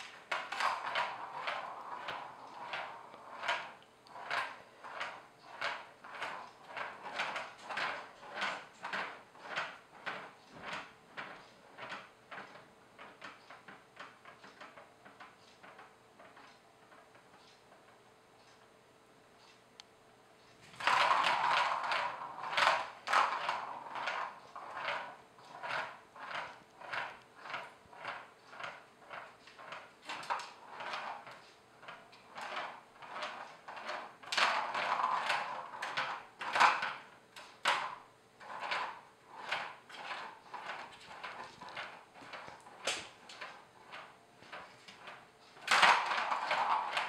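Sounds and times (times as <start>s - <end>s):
plastic balls rattling on track: 0.0s - 17.2s, 20.6s - 47.0s.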